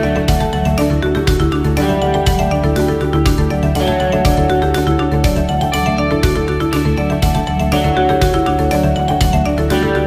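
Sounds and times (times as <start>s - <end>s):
dance music with steady beat: 0.0s - 10.0s.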